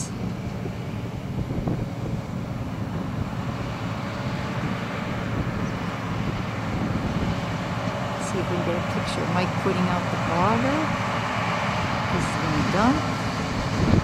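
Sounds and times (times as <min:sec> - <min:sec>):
farm machinery rumbling: 0:00.0 - 0:14.0.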